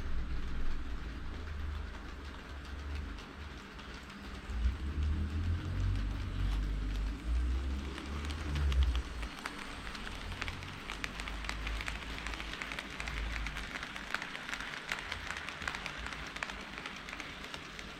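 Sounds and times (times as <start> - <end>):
low rumble of model train: 0.0 - 17.9
model train wheel clicks: 0.0 - 17.9.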